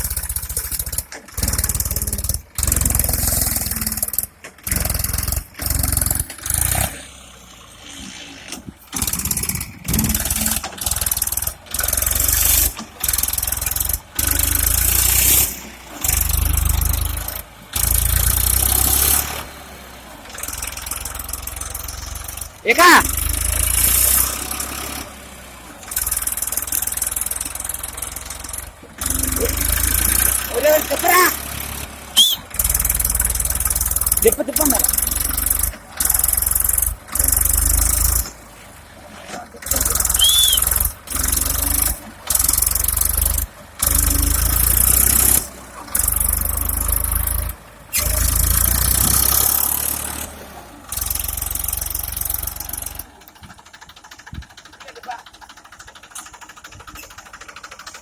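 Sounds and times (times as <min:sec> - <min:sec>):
tractor diesel engine straining: 0:00.0 - 0:58.0.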